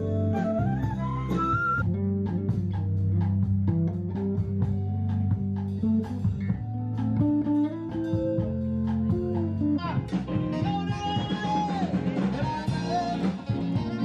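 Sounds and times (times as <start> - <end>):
bass guitar: 0.0 - 14.0
guitar plucking notes: 0.0 - 14.0.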